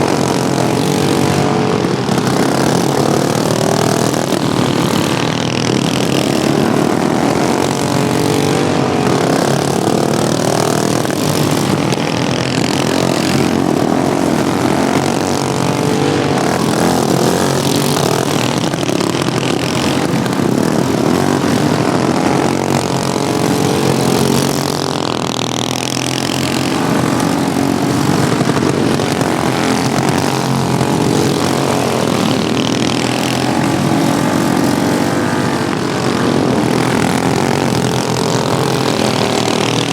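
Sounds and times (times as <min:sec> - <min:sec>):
lawnmower engines revving: 0:00.0 - 0:39.9.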